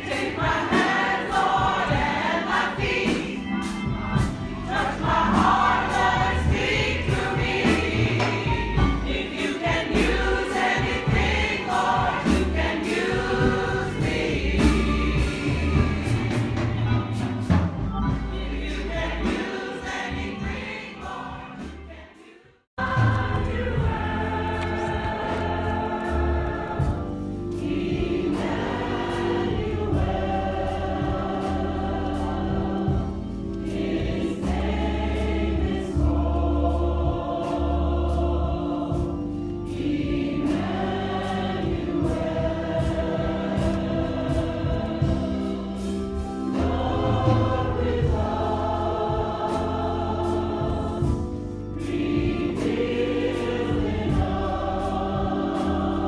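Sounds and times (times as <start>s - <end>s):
congregation singing gospel: 0.0s - 56.0s.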